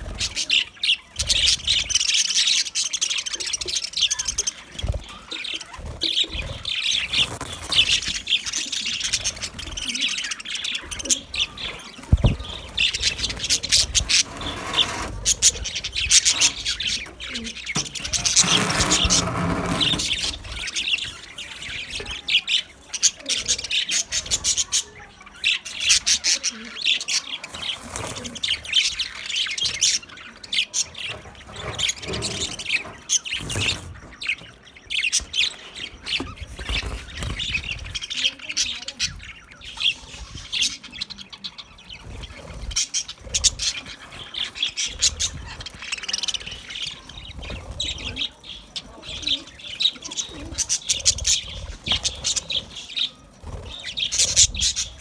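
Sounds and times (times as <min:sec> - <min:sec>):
parrots chirping and chattering: 0:00.0 - 0:55.0.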